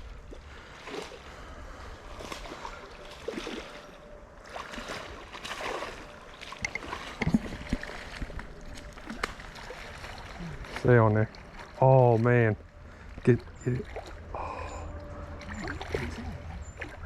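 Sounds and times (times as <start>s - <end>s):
creek water splashing: 0.0s - 17.0s.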